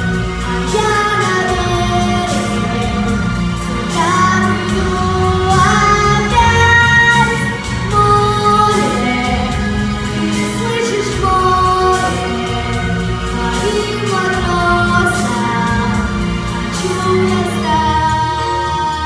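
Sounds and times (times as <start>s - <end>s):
pop backing track with bass: 0.0s - 19.0s.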